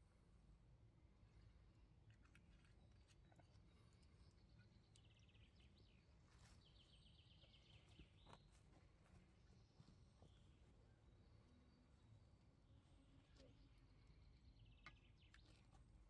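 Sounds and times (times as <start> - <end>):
faint forest ambience: 0.0 - 16.0.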